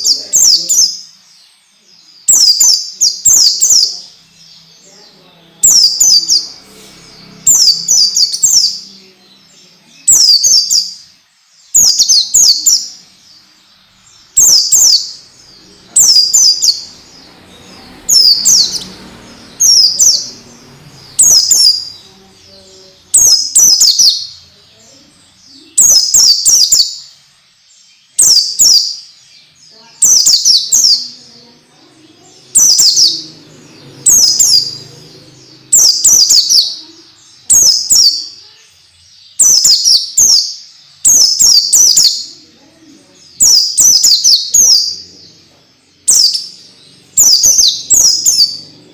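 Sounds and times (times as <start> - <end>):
bird song downward-sweeping notes: 0.0 - 48.9.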